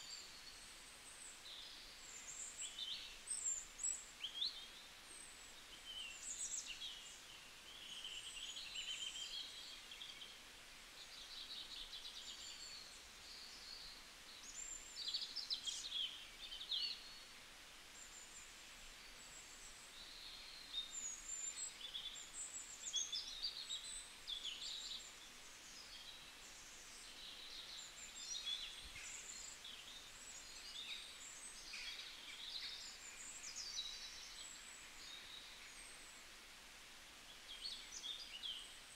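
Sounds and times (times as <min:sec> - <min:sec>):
small birds chirping and trilling: 0:00.0 - 0:17.3, 0:18.0 - 0:36.4, 0:37.2 - 0:38.9
faint steady hiss: 0:00.0 - 0:38.9.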